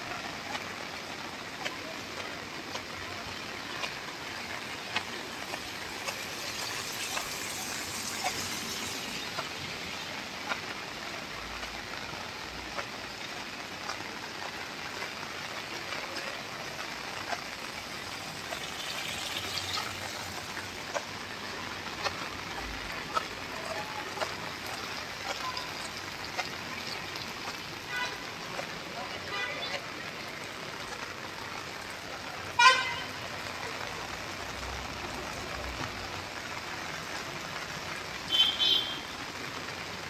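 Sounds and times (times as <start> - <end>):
raindrops ticking on hard surfaces: 0.0 - 40.0
steady rain hiss: 0.0 - 40.0.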